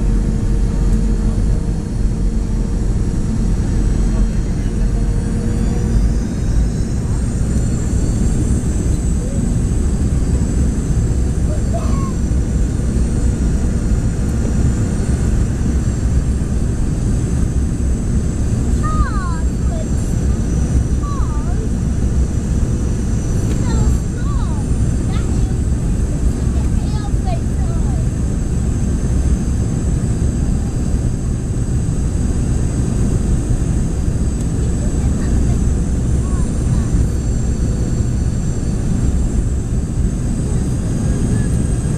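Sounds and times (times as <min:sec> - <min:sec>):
airliner cabin rumble: 0:00.0 - 0:41.9
high jet engine whine: 0:00.0 - 0:41.9.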